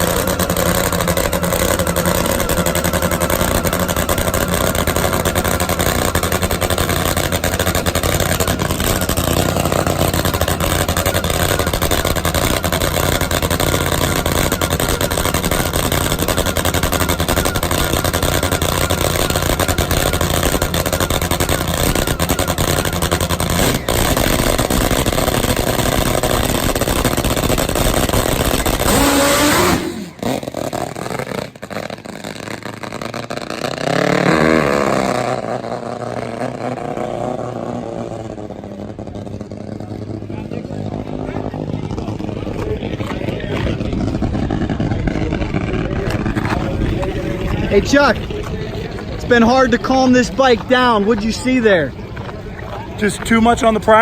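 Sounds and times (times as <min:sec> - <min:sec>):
drag motorcycle engine running: 0:00.0 - 0:54.0.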